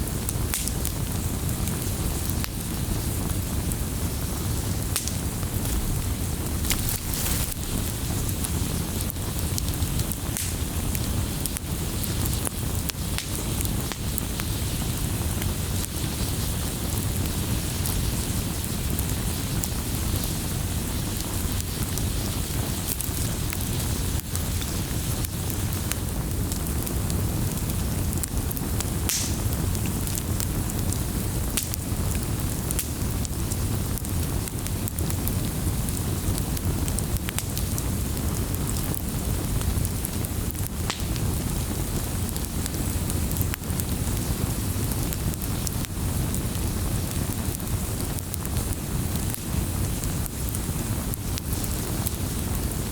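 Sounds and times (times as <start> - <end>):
low rumble of flames: 0.0 - 52.9
wood fire crackling: 0.0 - 52.9.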